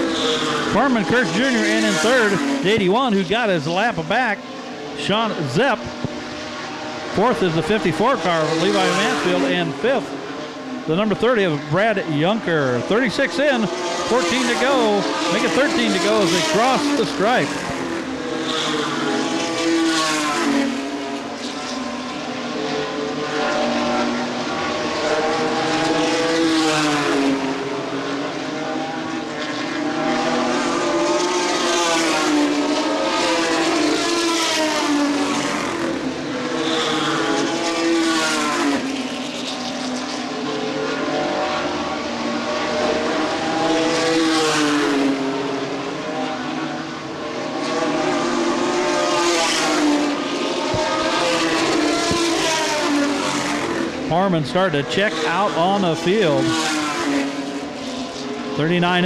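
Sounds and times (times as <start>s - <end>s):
race truck engines passing: 0.0s - 59.0s.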